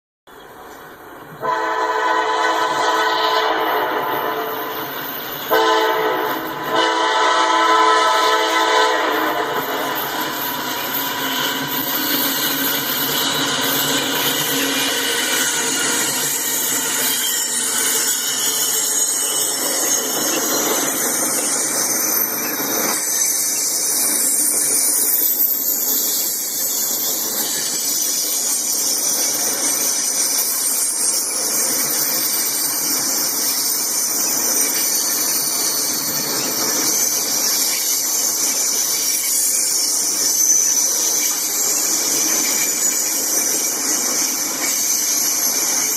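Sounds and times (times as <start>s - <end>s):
freight train wheels rumbling: 0.3s - 45.9s
high metallic squealing: 2.3s - 45.9s.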